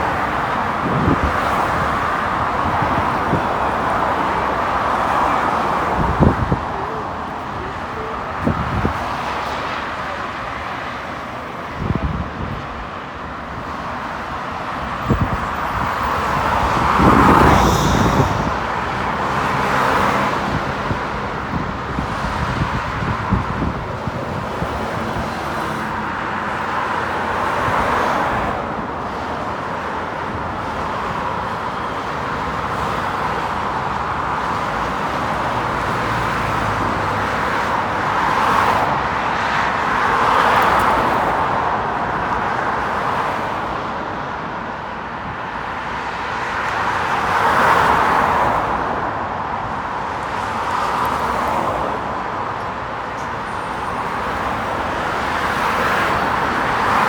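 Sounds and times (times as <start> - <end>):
cars passing by: 0.0 - 57.0
hum of traffic: 0.0 - 57.0.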